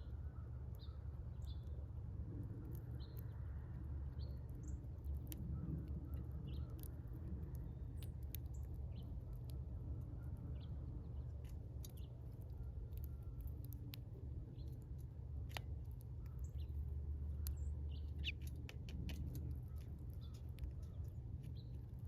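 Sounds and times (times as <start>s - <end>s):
small birds chirping: 0.0s - 22.0s
steady low rumble: 0.0s - 22.0s
sharp ticks and clicks: 2.4s - 22.0s.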